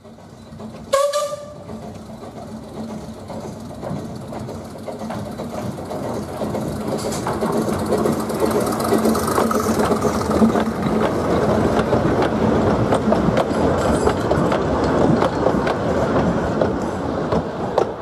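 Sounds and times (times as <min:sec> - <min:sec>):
steam train passing: 0:00.0 - 0:18.0
wheels clicking over track: 0:00.0 - 0:18.0.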